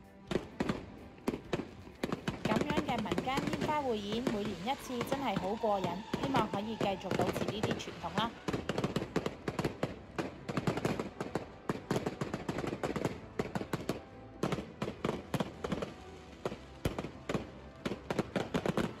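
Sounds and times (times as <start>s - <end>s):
fireworks bangs and crackles: 0.2s - 19.0s.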